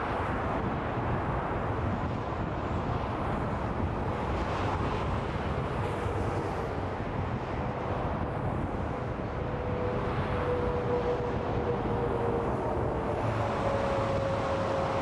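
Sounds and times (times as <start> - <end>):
freeway traffic rush: 0.0 - 15.0.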